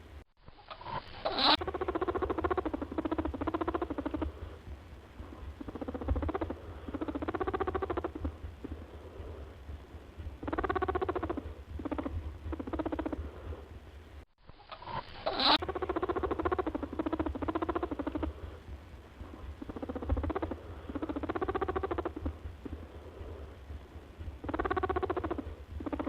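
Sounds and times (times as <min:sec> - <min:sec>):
small animal chattering calls: 0:00.6 - 0:04.6, 0:05.2 - 0:09.3, 0:10.4 - 0:13.4, 0:14.6 - 0:18.6, 0:19.2 - 0:23.5, 0:24.4 - 0:26.0.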